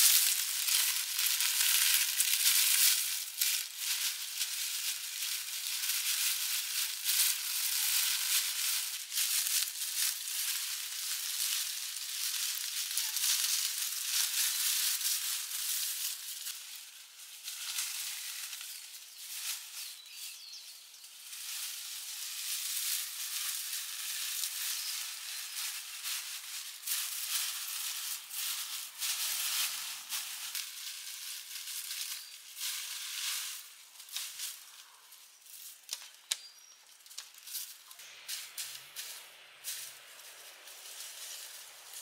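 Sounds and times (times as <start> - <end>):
dry rustling and crackling: 0.0 - 42.0.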